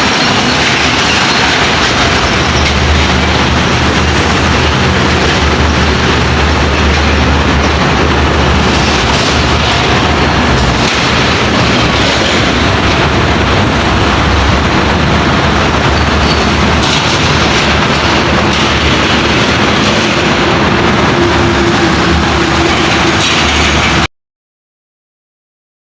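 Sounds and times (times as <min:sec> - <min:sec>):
heavy trucks driving by: 0:00.0 - 0:24.1.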